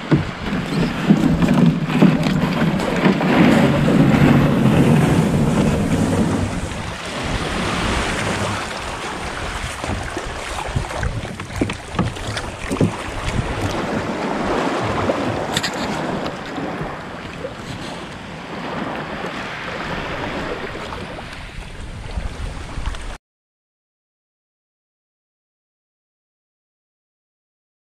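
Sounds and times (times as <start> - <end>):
paddle stroking through water: 0.0 - 23.2
water sloshing and splashing: 0.0 - 23.2
wind on microphone: 0.0 - 23.2.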